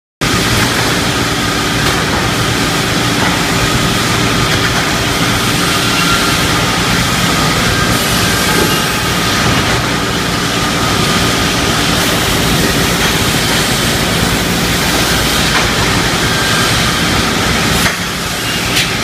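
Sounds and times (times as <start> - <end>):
ripping saw machine running: 0.2 - 19.0.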